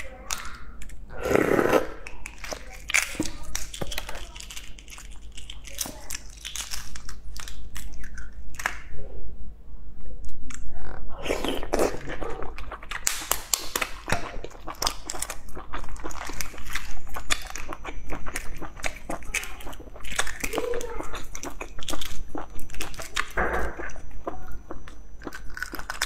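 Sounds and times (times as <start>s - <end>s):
eggshells cracking: 2.0s - 8.9s, 11.2s - 26.0s.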